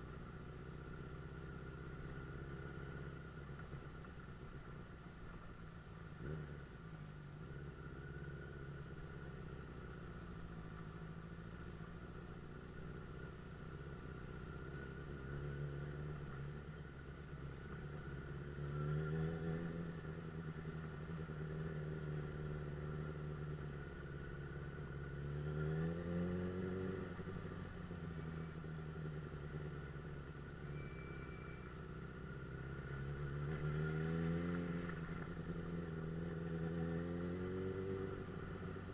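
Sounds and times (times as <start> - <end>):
motorcycle engine revving: 6.2 - 38.9.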